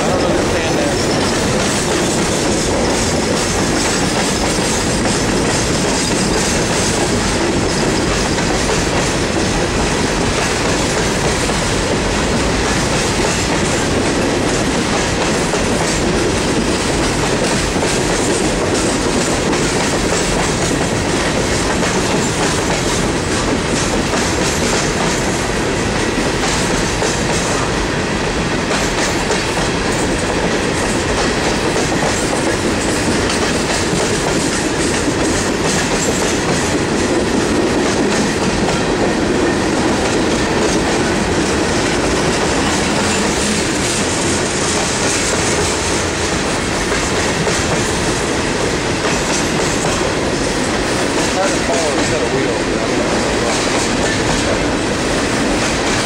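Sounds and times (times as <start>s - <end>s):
freight train rumble: 0.0s - 56.0s
train wheels clacking over rail joints: 0.0s - 56.0s.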